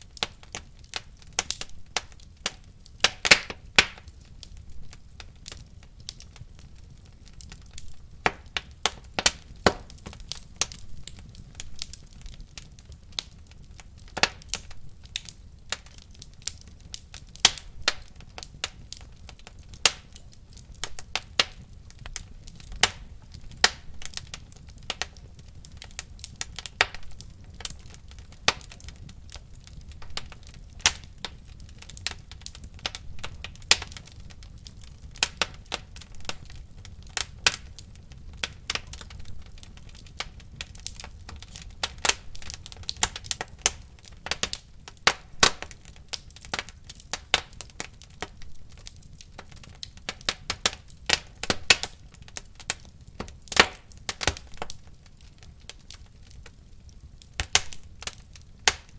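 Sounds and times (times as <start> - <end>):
fire pops and snaps: 0.0 - 58.9
low rumble of flames: 0.0 - 58.9.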